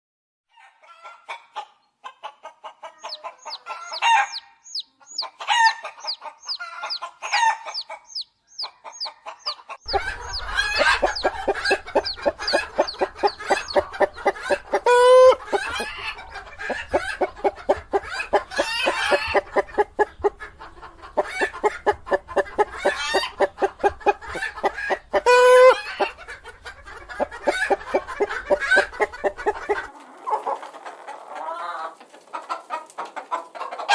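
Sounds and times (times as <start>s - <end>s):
hen clucking: 0.8s - 33.9s
chicks peeping: 2.5s - 33.9s.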